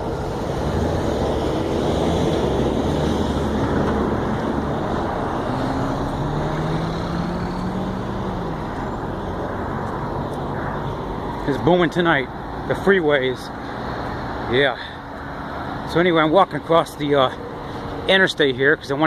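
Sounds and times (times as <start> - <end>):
freeway traffic noise: 0.0 - 19.0
vehicle engine hum passing: 0.0 - 19.0.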